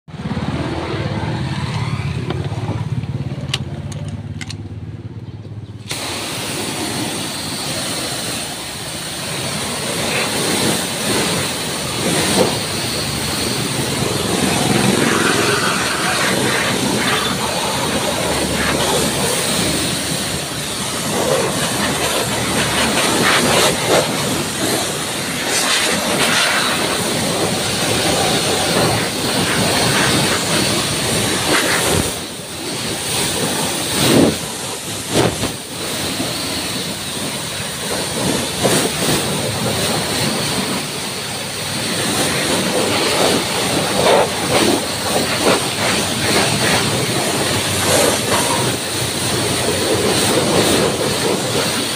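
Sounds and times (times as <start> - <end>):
pressure washer spraying metal: 5.9 - 51.9.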